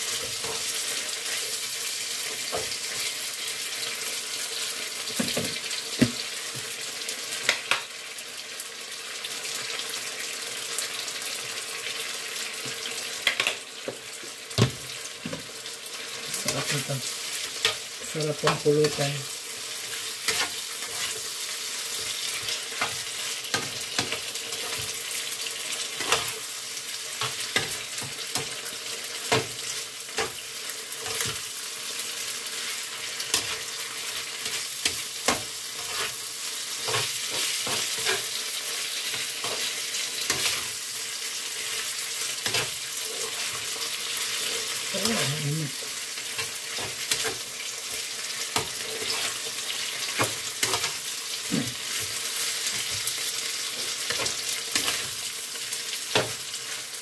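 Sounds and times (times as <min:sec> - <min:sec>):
spatula clicking and scraping pan: 0:00.0 - 0:03.2, 0:12.6 - 0:44.9, 0:45.9 - 0:57.0
meat sizzling in a frying pan: 0:00.0 - 0:57.0.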